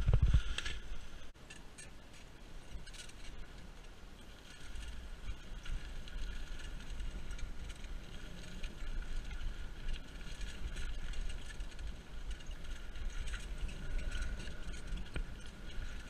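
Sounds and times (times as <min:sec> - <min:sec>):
bike rattling: 0:00.0 - 0:16.0
bike tyres crackling through leaves: 0:00.0 - 0:16.0
wind rumble on microphone: 0:00.0 - 0:16.0.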